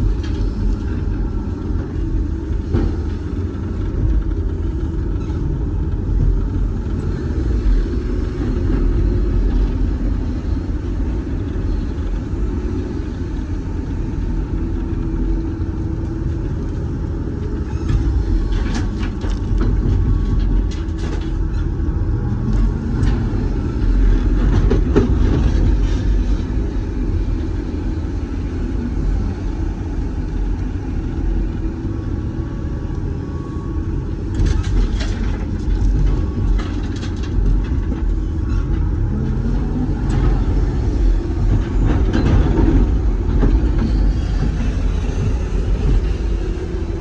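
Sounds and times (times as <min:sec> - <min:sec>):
excavator diesel engine and hydraulics: 0:00.0 - 0:47.0.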